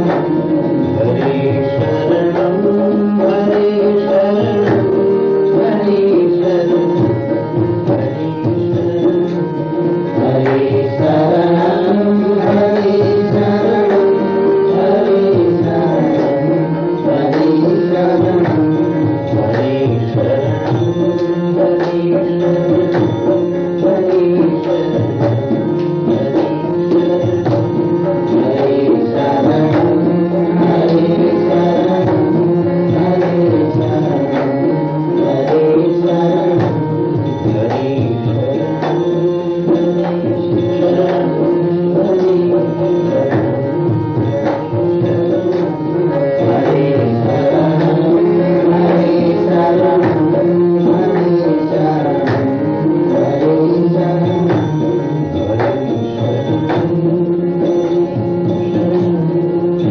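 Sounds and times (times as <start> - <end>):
devotional chanted singing: 0.0 - 59.9
tabla rhythm: 0.0 - 59.9.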